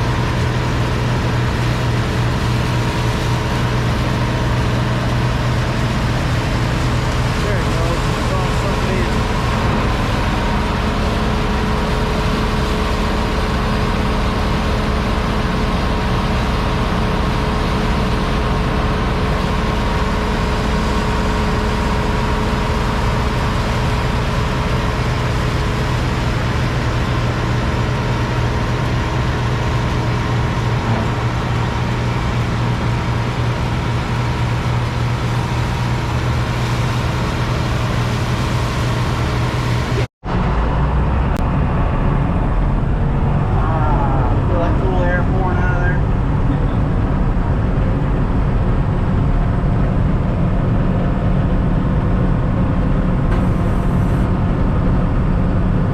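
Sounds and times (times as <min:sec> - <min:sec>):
combine harvester drone: 0:00.0 - 0:55.9.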